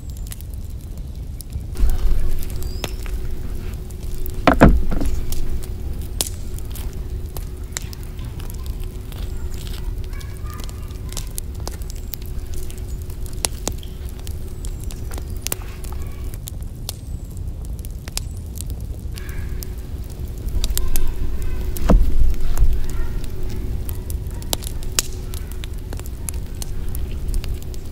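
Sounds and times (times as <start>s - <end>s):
wood fire crackling and popping: 0.0s - 27.9s
low steady rumble: 1.6s - 27.9s.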